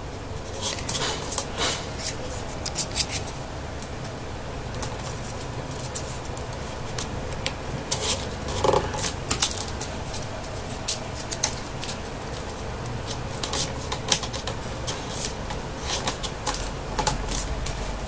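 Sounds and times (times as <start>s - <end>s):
steady low hum: 0.0s - 18.0s
paper rustling and clicking: 0.5s - 18.0s.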